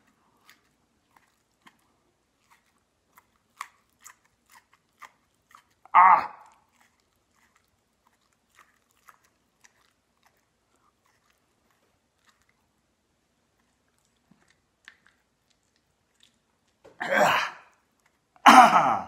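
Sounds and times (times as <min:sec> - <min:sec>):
faint chewing clicks: 0:00.0 - 0:17.0, 0:17.6 - 0:18.5.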